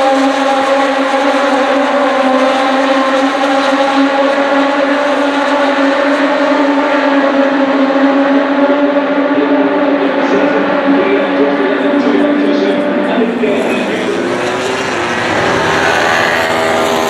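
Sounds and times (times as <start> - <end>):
racing motorcycle engine at high revs: 0.0 - 17.0.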